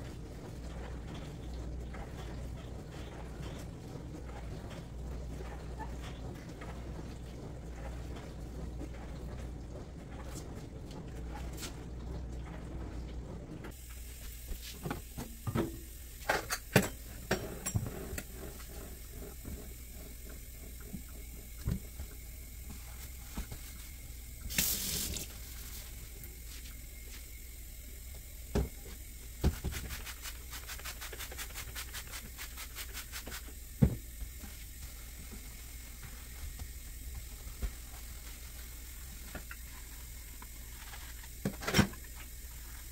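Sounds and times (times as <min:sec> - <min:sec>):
sponge scrubbing steel sink: 0:00.0 - 0:13.4, 0:17.0 - 0:42.9.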